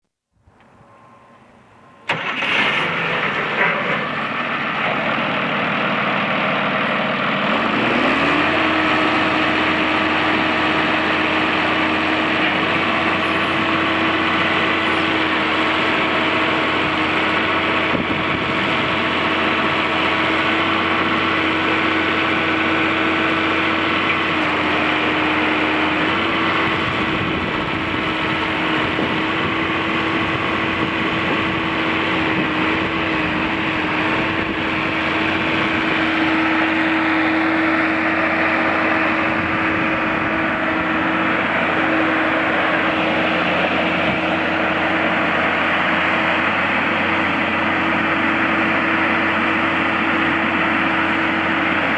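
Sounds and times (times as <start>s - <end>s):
tractor diesel engine: 0.4s - 51.9s.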